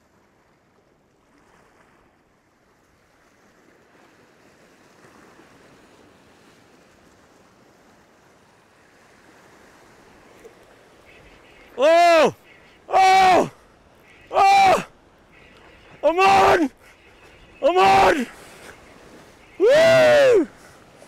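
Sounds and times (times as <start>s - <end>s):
small sea waves breaking on rocks: 0.0s - 21.0s.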